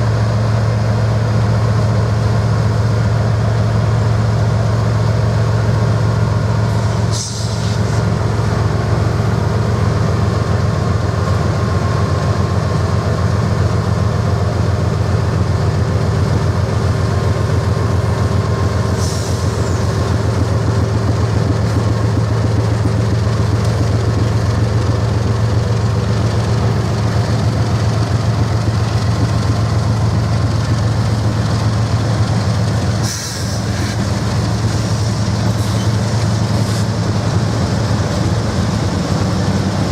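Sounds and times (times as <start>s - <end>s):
train rumbling by: 0.0s - 39.9s.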